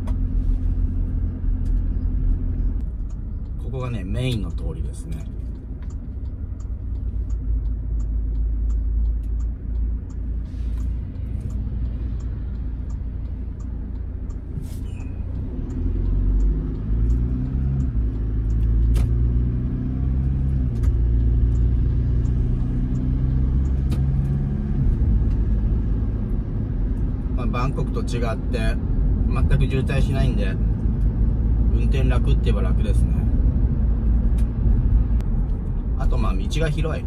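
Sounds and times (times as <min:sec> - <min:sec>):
car engine and road rumble: 0:00.0 - 0:37.0.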